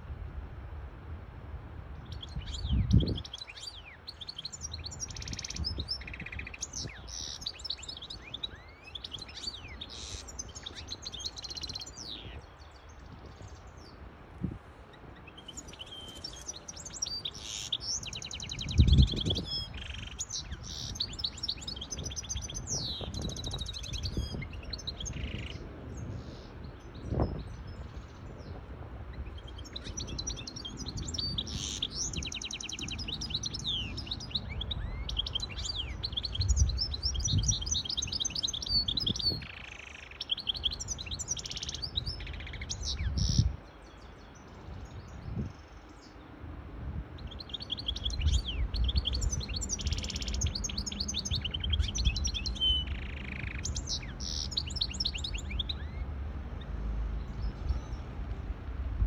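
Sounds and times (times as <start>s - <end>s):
finch singing twittering trills: 2.0s - 14.1s, 14.8s - 46.4s, 47.1s - 58.1s.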